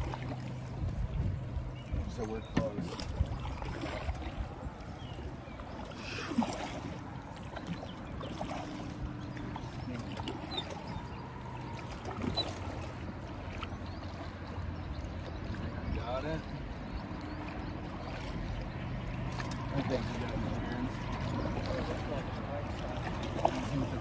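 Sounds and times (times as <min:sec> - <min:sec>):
river water lapping around boat: 0:00.0 - 0:24.0.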